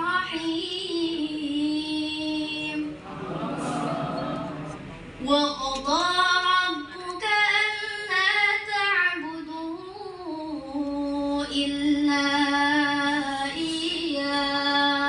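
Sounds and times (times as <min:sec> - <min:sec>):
girl chanting melodically: 0:00.0 - 0:03.0, 0:05.2 - 0:15.0.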